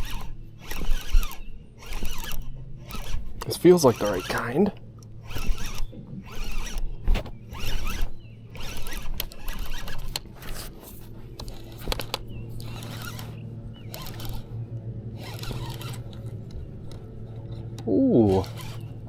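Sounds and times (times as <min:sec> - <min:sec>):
fishing reel cranking: 0:00.0 - 0:06.9, 0:07.5 - 0:10.7, 0:11.4 - 0:14.5, 0:15.2 - 0:16.3, 0:17.9 - 0:19.0.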